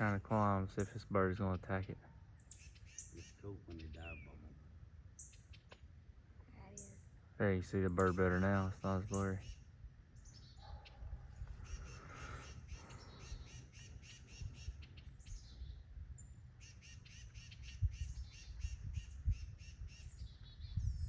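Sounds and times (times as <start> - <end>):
songbirds harsh alarm calls: 0.0 - 21.0.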